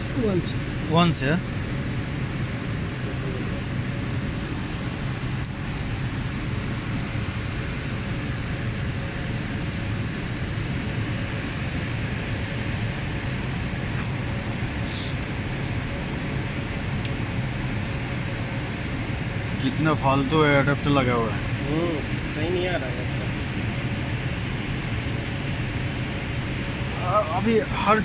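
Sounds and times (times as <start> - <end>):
air conditioning and fans hum: 0.0 - 28.0.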